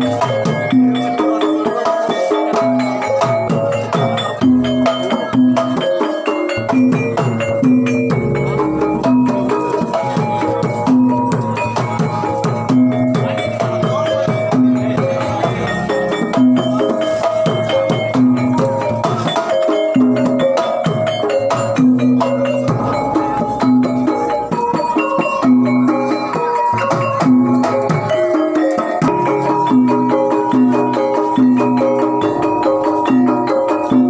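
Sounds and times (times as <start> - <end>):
drum strokes: 0.0 - 34.0
ringing tuned metal percussion: 0.0 - 34.0.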